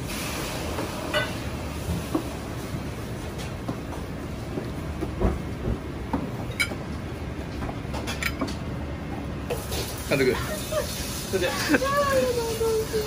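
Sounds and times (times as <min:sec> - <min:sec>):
kitchen background rumble: 0:00.0 - 0:13.0.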